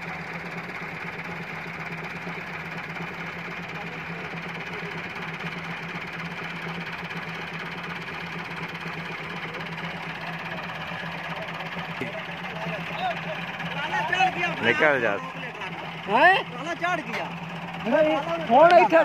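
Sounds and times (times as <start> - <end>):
tractor diesel engines running: 0.0 - 19.0.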